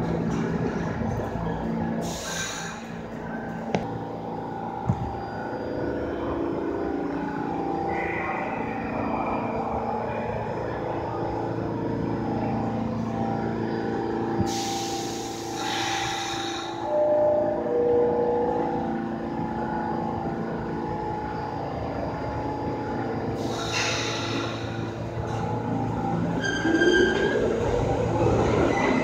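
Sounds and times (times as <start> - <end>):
subway train motors humming: 0.0 - 29.0.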